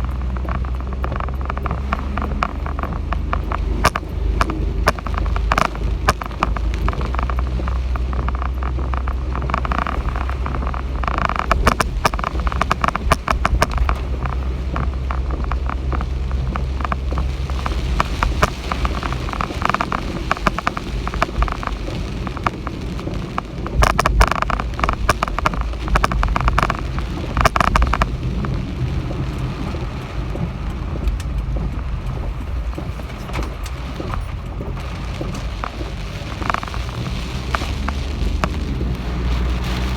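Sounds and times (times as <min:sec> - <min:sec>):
heavy rain pelting: 0:00.0 - 0:39.9.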